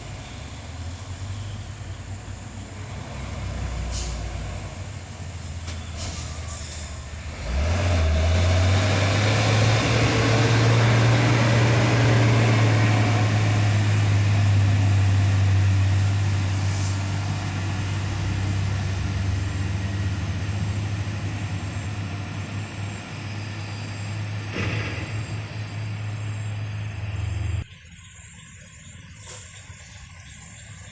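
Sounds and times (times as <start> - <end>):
diesel truck engine droning: 0.0 - 30.9
road noise: 0.0 - 30.9.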